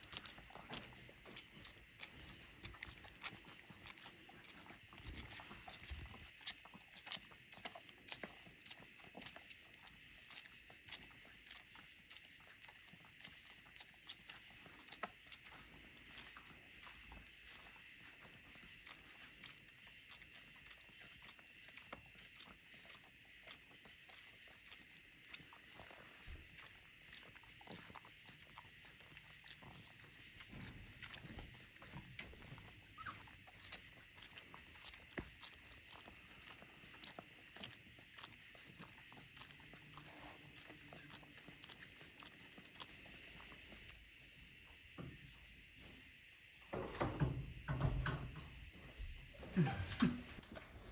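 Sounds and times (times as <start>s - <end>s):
chorus of night insects: 0.0s - 50.9s.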